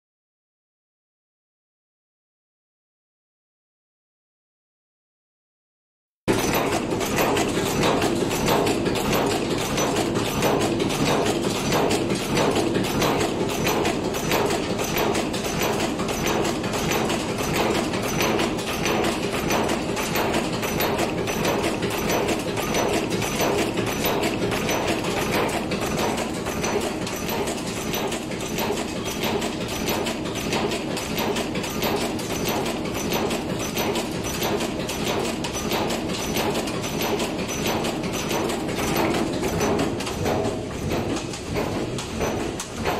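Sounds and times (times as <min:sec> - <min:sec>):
forging machine rhythmic clatter: 0:06.3 - 0:42.9.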